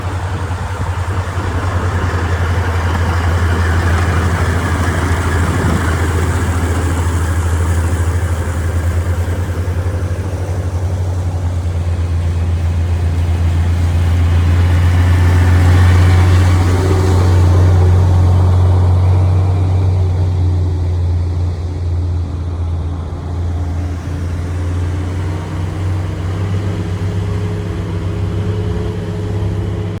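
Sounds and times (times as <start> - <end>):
water spraying hiss: 0.0 - 29.9
diesel truck engine humming: 0.0 - 30.0.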